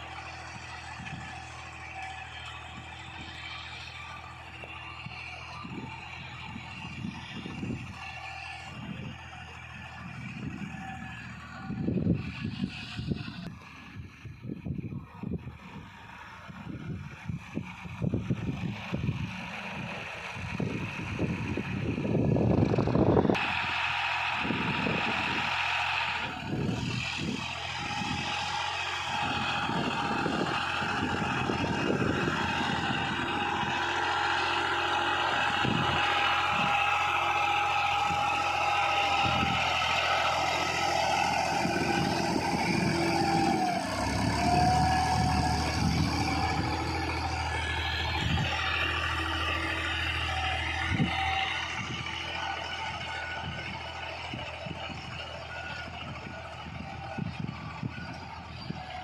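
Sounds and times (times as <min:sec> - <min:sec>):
tractor engine running: 0:00.0 - 0:59.0
wind buffeting microphone: 0:04.3 - 0:23.6, 0:24.3 - 0:59.0.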